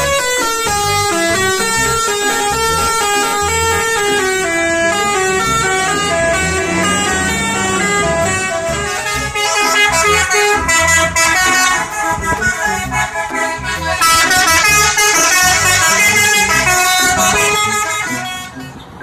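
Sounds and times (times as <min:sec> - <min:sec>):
musical air horn tune: 0:00.0 - 0:18.8.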